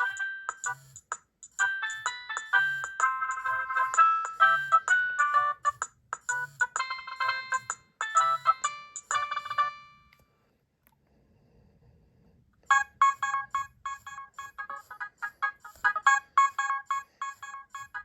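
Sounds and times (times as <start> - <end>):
mobile phone ringtones: 0.0 - 1.0, 1.6 - 10.2, 12.7 - 18.0.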